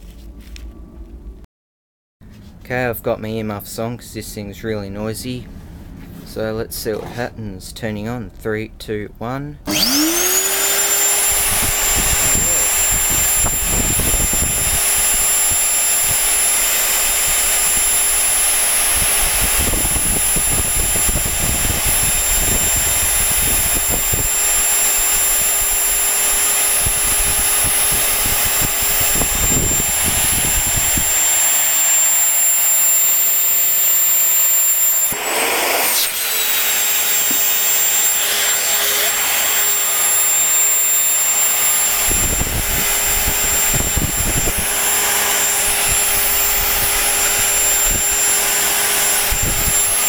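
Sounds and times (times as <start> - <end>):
rushing fan air: 9.7 - 50.0
vacuum cleaner motor whine: 9.7 - 50.0.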